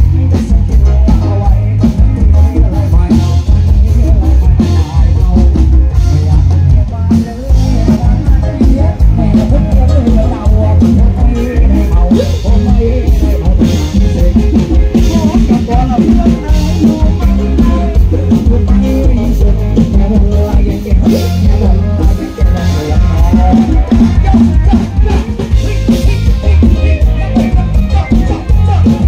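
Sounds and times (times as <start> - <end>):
drum kit dance beat: 0.0 - 29.0
heavy bass: 0.0 - 29.0
live dance band music over speakers: 0.0 - 29.0.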